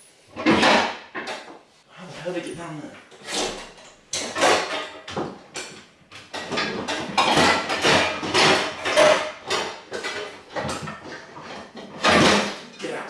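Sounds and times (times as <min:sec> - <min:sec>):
pots and pans clanking: 0:00.3 - 0:01.6, 0:03.0 - 0:13.0.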